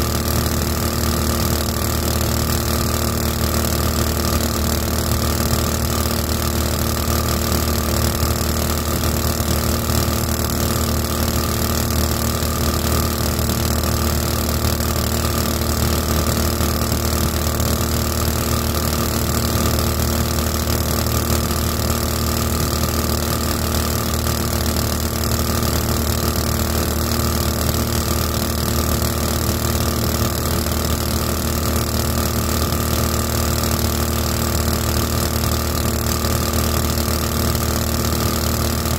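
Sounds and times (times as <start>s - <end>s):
small boat engine running: 0.0s - 38.9s.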